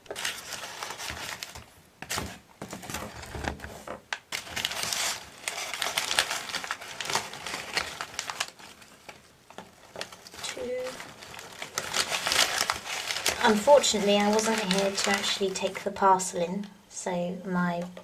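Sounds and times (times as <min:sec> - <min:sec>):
packaging crinkling and rustling: 0:00.0 - 0:16.3.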